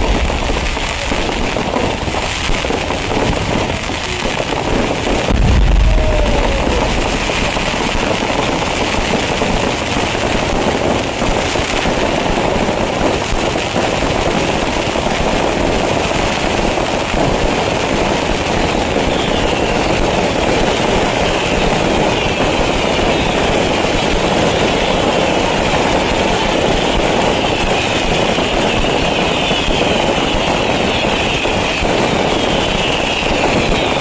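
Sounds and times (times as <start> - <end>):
faint firework whistles: 0.0 - 34.0
fireworks crackling barrage: 0.0 - 34.0.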